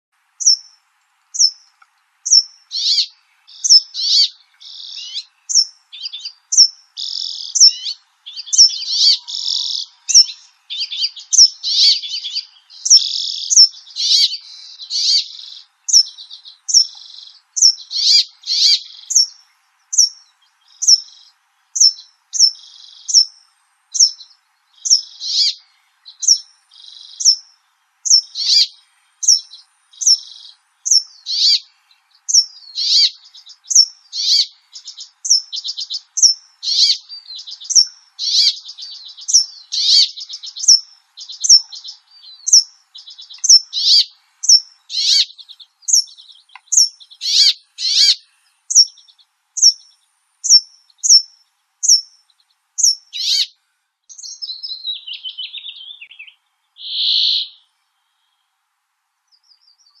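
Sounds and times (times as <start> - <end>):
high falling bird chirps: 0.4 - 57.8.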